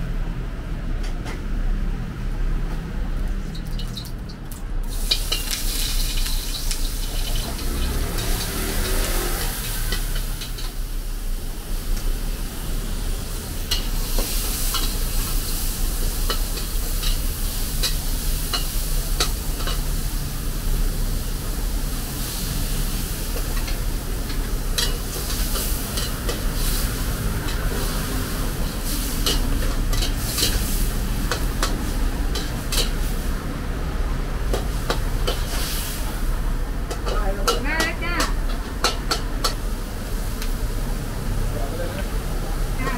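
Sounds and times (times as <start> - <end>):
food sizzling in pan: 4.8 - 42.9.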